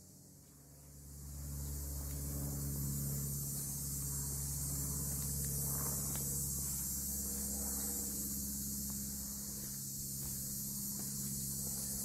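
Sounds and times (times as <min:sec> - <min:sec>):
crickets buzzing: 0:00.0 - 0:12.0
low hum: 0:00.0 - 0:12.0.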